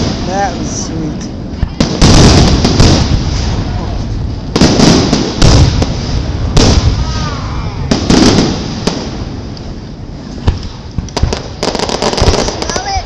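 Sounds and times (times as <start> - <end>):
firework booms: 0.0 - 13.0
firework crackle: 0.0 - 13.0.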